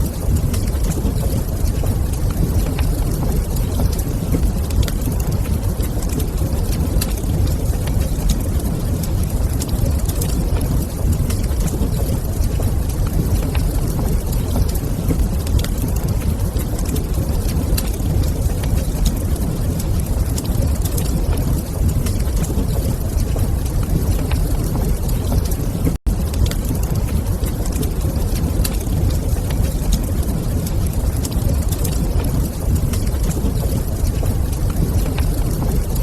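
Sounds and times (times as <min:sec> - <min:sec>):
wood fire burning: 0:00.0 - 0:36.0.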